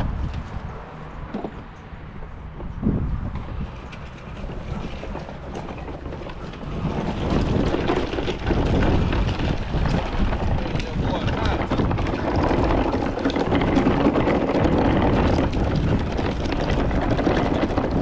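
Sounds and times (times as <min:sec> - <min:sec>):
cooler wheels rattling on gravel: 0:03.5 - 0:18.0.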